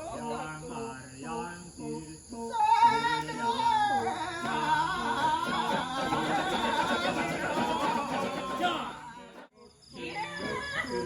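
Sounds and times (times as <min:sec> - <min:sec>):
wavering high singing voice: 0:00.0 - 0:09.4.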